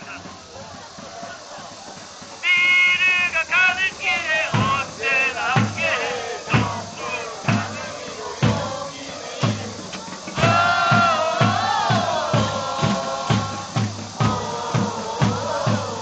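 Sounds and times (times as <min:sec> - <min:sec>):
bass drum beats: 0:00.0 - 0:16.0
football supporters chanting: 0:00.0 - 0:16.0.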